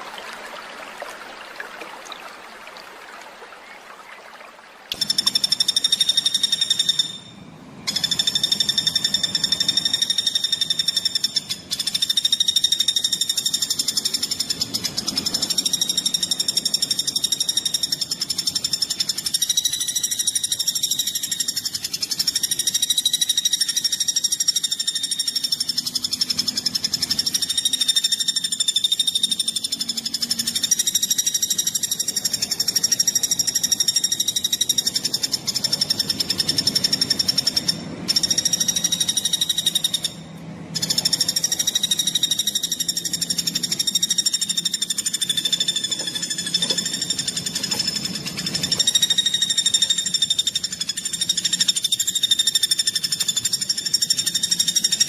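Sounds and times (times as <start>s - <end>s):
songbird fast trill: 4.9s - 55.0s.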